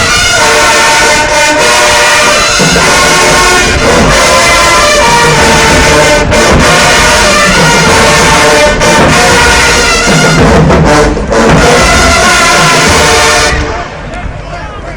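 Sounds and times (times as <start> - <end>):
brass band playing chords: 0.0 - 14.9.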